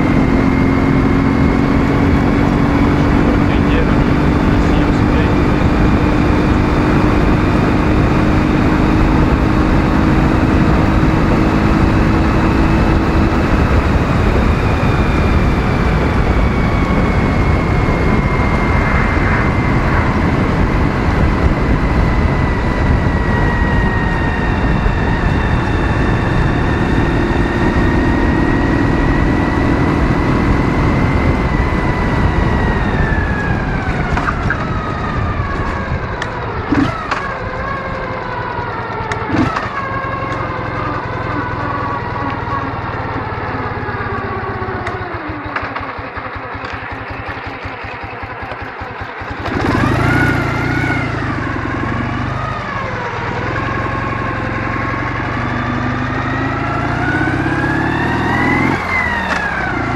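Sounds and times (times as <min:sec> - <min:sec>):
high-pitched whine: 0:00.0 - 0:59.9
motorcycle engine running: 0:00.0 - 0:59.9
wind and road noise: 0:00.0 - 0:59.9.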